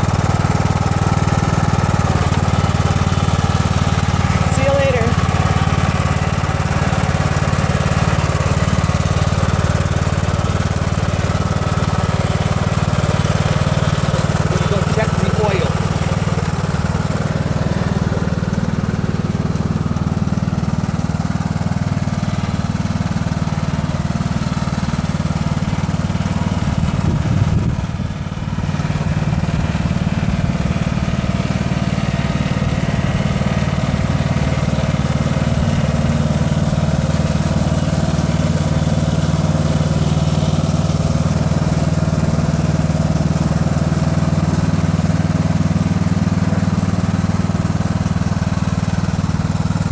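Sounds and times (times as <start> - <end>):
lawn tractor engine running: 0.0 - 49.9.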